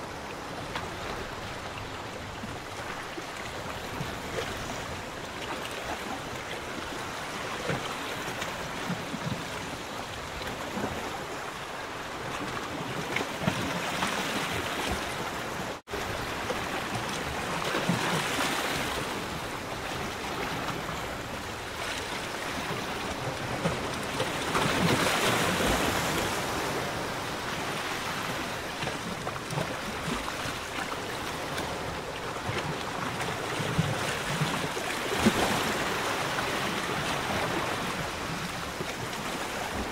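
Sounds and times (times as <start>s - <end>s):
water lapping against pontoon: 0.0s - 39.9s.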